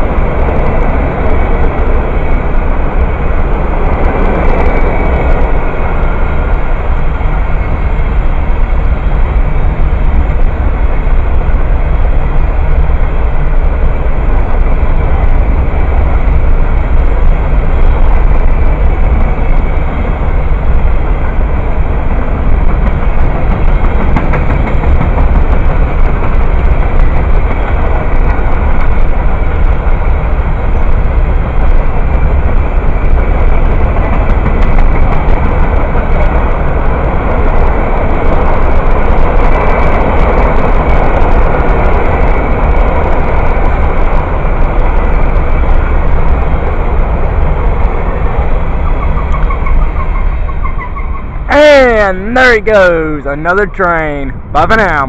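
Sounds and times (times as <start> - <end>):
train cars clicking and rattling: 0.0 - 54.5
freight train rumbling past: 0.0 - 55.0.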